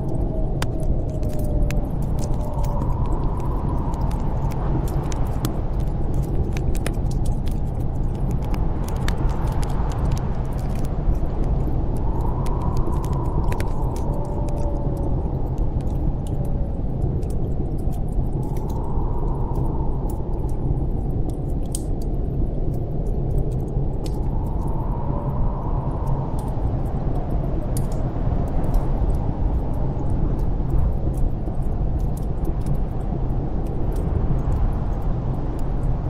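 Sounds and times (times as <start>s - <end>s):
snowstorm wind rushing: 0.0s - 36.0s
wind whistling: 0.0s - 36.0s
wood fire crackling: 0.0s - 36.0s.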